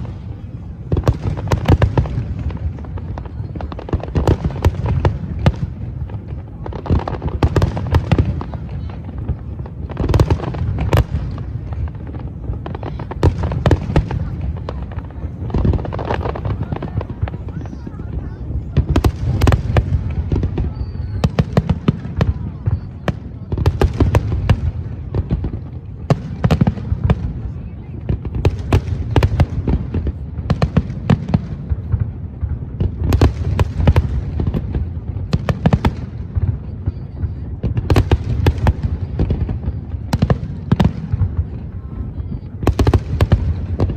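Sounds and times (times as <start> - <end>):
fireworks bangs and crackles: 0.0 - 43.9
low rumble of explosions: 0.0 - 43.9.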